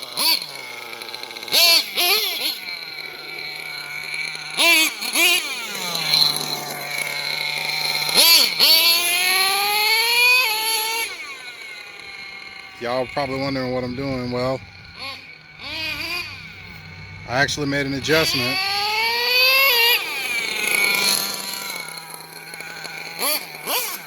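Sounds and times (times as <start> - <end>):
rc truck motor whining: 0.0 - 24.0.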